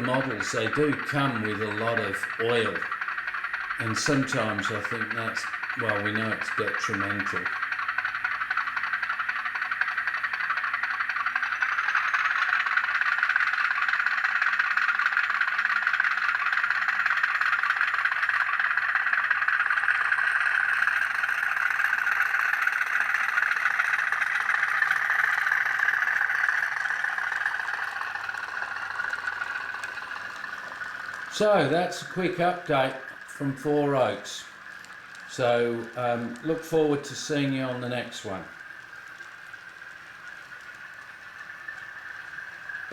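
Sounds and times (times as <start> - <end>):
model train rattling on track: 0.0 - 42.9.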